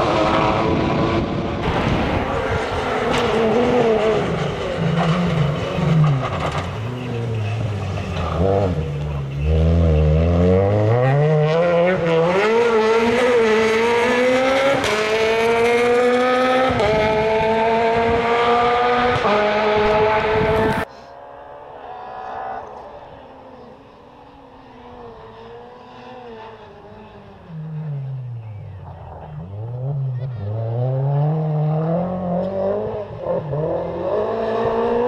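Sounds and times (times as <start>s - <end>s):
rally car engine accelerating: 0.0s - 35.0s.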